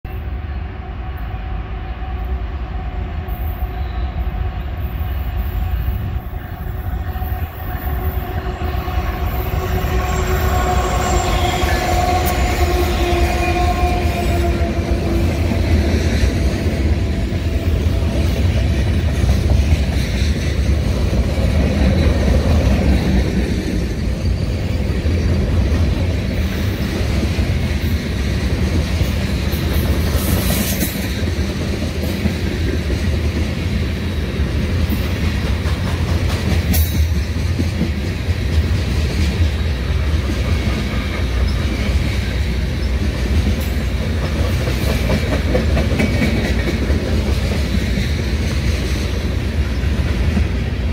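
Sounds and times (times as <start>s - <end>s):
diesel locomotive passing: 0.1s - 50.9s
freight cars rumbling on rails: 0.1s - 50.9s.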